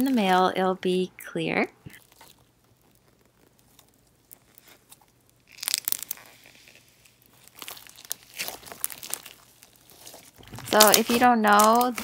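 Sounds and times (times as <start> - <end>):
slime squished crackling and popping: 1.8 - 12.0.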